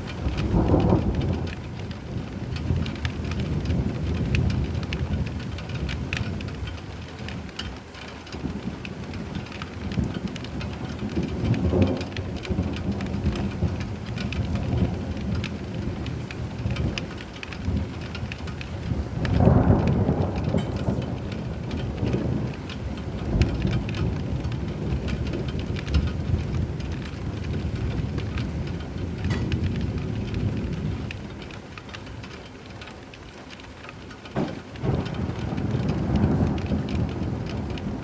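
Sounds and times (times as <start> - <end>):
heavy rain: 0.0 - 38.0
thunder rumbling: 0.0 - 38.0.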